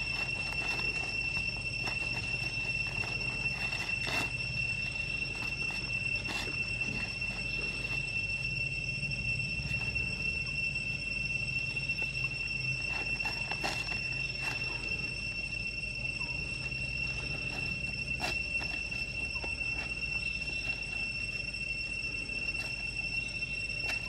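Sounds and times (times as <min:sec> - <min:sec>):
dry leaves crackling: 0:00.0 - 0:24.0
high-pitched insect drone: 0:00.0 - 0:24.0.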